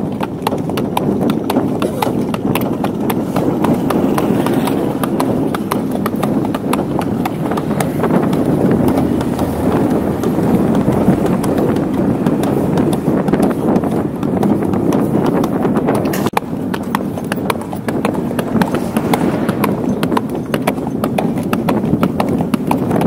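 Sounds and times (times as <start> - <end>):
hooves clip-clopping on asphalt: 0.0 - 23.0
steady rumbling noise: 0.0 - 23.0.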